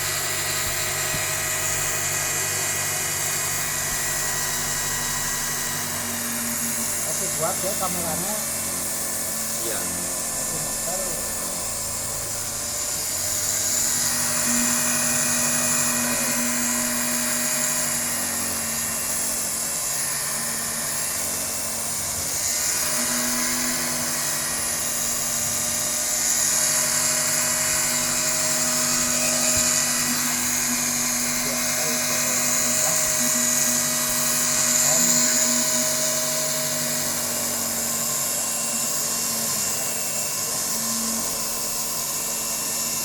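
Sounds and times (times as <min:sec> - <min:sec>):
fabric-cutting machine motor whine: 0:00.0 - 0:43.0.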